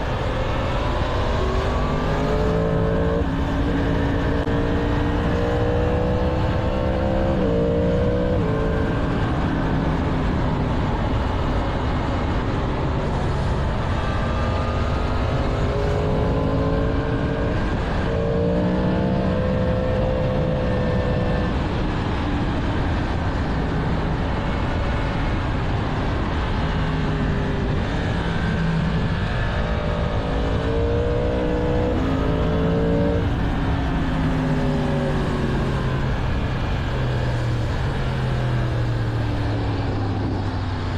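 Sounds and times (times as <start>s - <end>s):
motorcycle engine revving: 0.0s - 22.1s, 26.0s - 40.9s
wind rushing over microphone: 0.0s - 40.9s.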